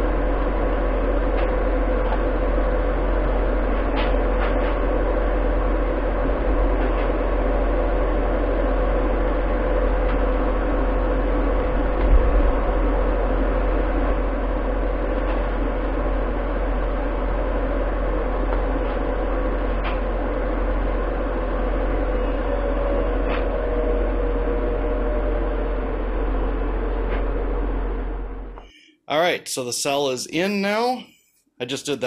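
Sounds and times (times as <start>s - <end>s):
machine whirring: 0.0s - 28.9s
low hum: 0.0s - 31.3s.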